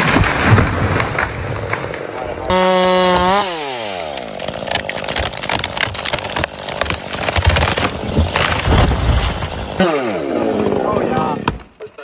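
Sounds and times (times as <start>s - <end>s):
cracks and knocks: 0.0s - 2.2s, 2.8s - 12.0s
low rumbling: 0.0s - 11.5s
chainsaw engine: 2.0s - 11.8s.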